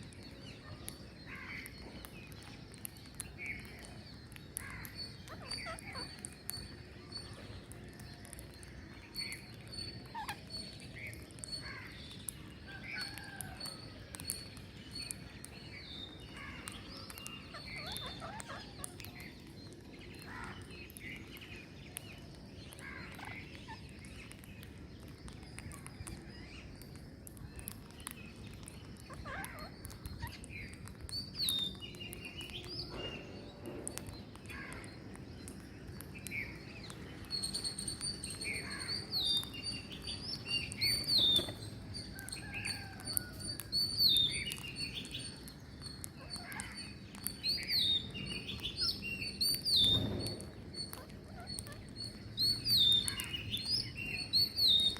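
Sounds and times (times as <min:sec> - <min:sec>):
parrots chirping and squawking: 0:00.3 - 0:21.4, 0:22.2 - 0:24.4, 0:27.6 - 0:35.6, 0:36.2 - 0:54.9.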